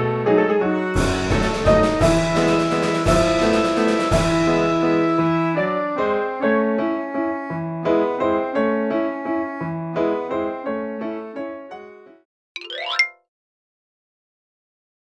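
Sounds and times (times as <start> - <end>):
piano melody: 0.0 - 13.2.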